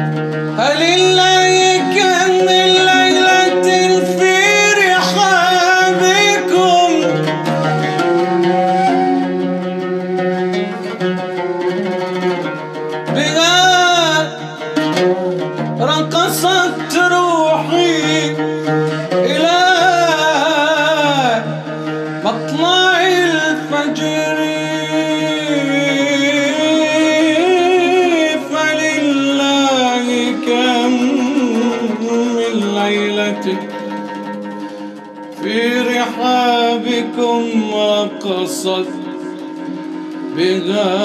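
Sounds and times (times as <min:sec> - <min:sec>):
ornamented vocal singing: 0:00.6 - 0:09.1, 0:13.1 - 0:14.9, 0:15.8 - 0:34.0, 0:35.4 - 0:41.0.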